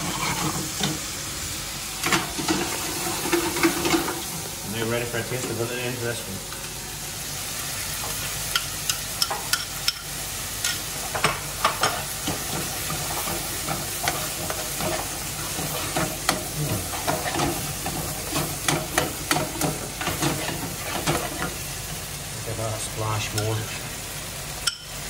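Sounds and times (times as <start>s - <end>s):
food sizzling in a frying pan: 0.0s - 25.0s.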